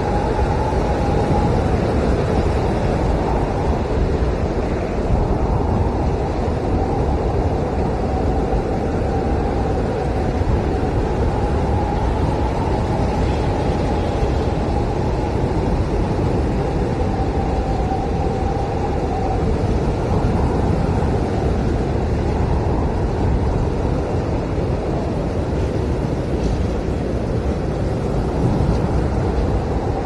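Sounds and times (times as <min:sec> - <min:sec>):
blizzard wind rushing and howling: 0:00.0 - 0:30.0.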